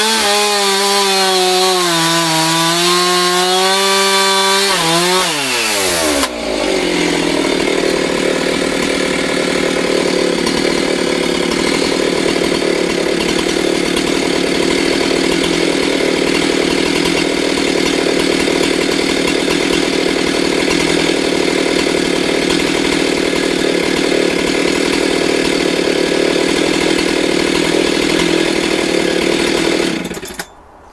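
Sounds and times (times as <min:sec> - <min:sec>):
chainsaw engine running: 0:00.0 - 0:30.5.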